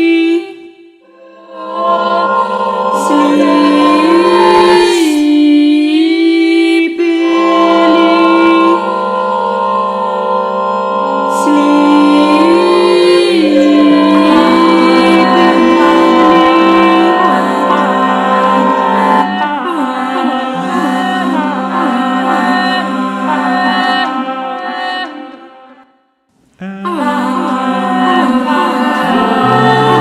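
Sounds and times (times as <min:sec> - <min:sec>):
choir singing in harmony: 0:00.0 - 0:25.9, 0:26.6 - 0:30.0.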